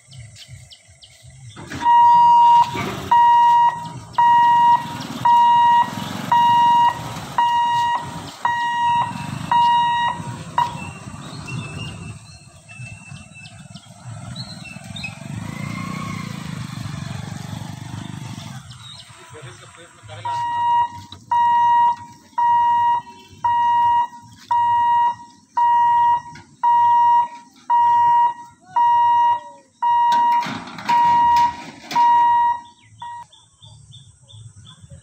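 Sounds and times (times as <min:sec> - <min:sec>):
vehicle engine running: 0:00.0 - 0:35.0
warning hooter beeping: 0:01.6 - 0:33.3.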